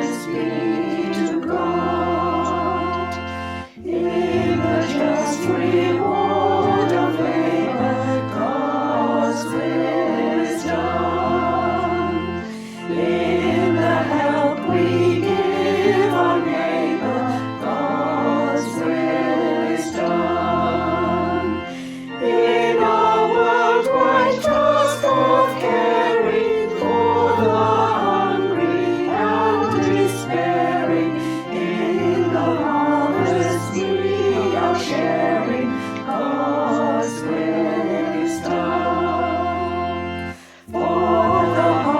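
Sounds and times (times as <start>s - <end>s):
choir singing: 0.0s - 41.9s
instrumental accompaniment: 0.0s - 41.9s.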